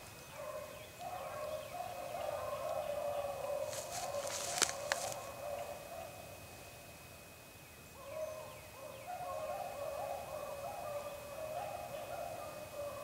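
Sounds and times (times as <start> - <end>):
distant dogs baying: 0.2 - 6.4, 8.0 - 13.0.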